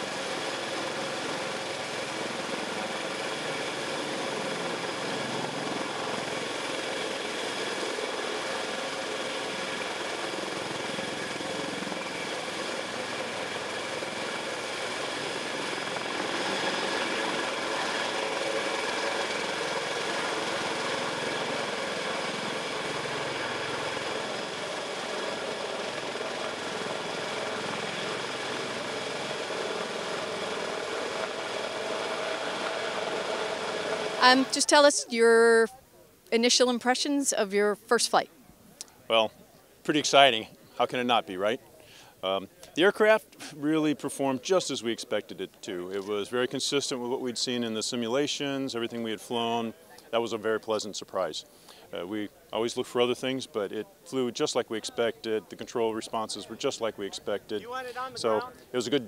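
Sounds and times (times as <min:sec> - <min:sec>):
helicopter hovering: 0:00.0 - 0:35.7, 0:36.3 - 0:38.3, 0:39.1 - 0:39.3, 0:39.9 - 0:59.0.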